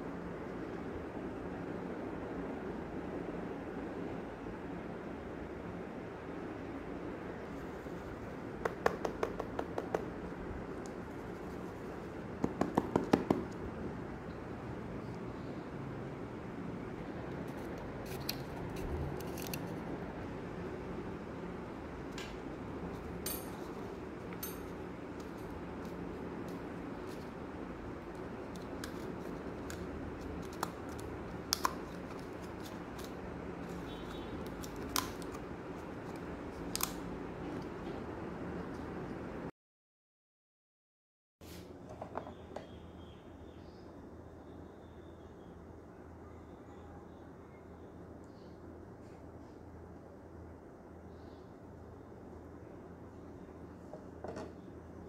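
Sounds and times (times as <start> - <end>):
low background hum: 0.0 - 39.5, 41.5 - 55.0.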